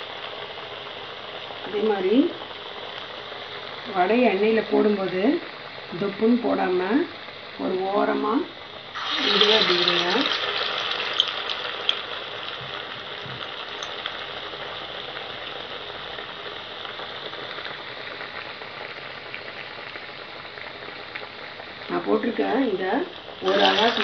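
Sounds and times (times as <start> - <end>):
food deep-frying in oil: 0.0 - 24.0.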